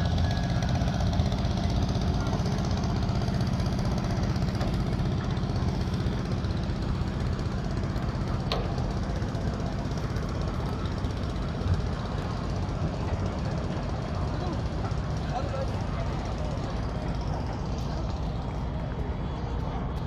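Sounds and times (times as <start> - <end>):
boat engine knocking: 0.0 - 20.0.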